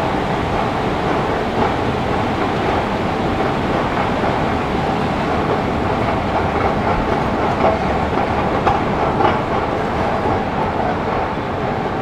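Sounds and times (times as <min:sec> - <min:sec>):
metro train rumbling: 0:00.0 - 0:12.0.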